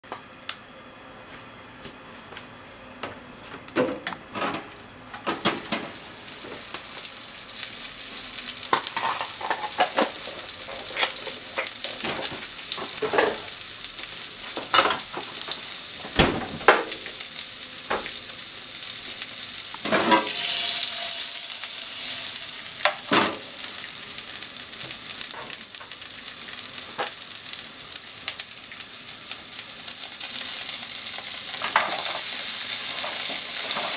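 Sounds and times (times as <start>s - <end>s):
butter sizzling in frying pan: 5.4s - 33.9s.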